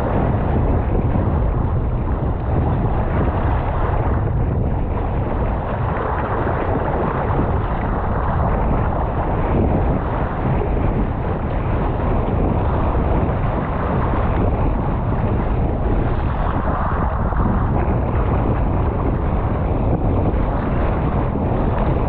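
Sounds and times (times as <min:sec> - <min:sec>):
sea water sloshing and splashing: 0:00.0 - 0:22.0
wind buffeting microphone: 0:00.0 - 0:22.0.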